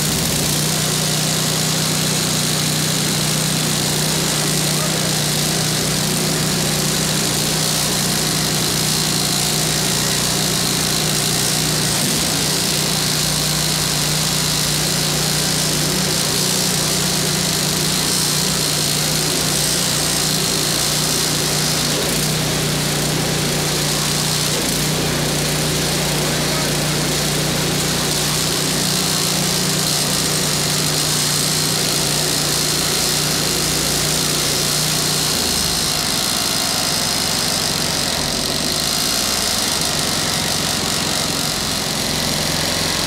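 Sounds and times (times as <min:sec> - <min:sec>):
snowblower engine running: 0:00.0 - 0:43.0.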